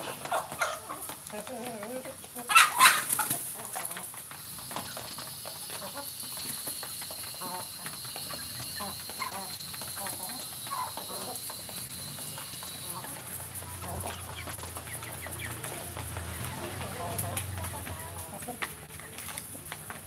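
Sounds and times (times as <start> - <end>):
chickens clucking: 0.0 - 20.0
small ticks of pecking: 3.2 - 20.0.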